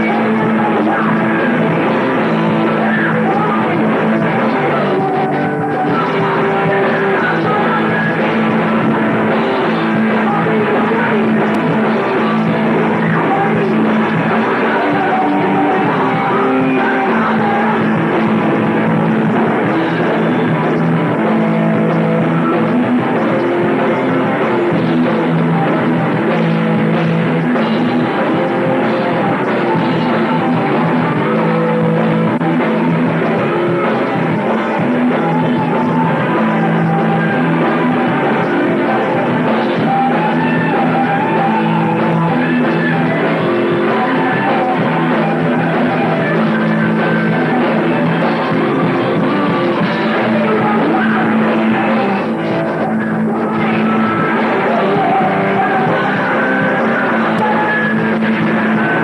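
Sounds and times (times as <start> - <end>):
drum kit playing: 0.0 - 59.0
electric guitar: 0.0 - 59.0.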